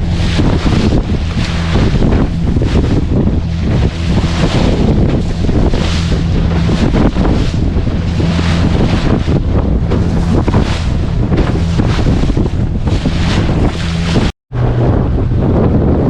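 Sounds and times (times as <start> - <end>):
boat engine running: 0.0 - 16.0
choppy sea water rushing: 0.0 - 16.0
wind buffeting microphone: 0.0 - 16.0.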